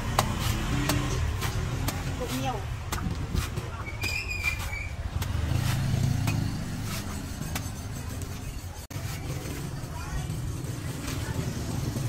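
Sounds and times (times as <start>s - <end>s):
cleaver chopping coconut husk: 0.0s - 9.7s.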